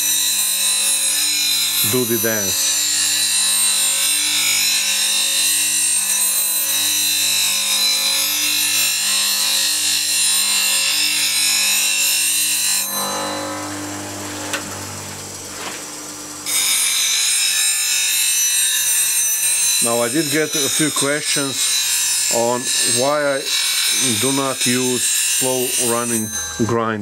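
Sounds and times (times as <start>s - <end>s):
grinder motor hum: 0.0s - 27.0s
steel grinding on wheel: 0.0s - 27.0s.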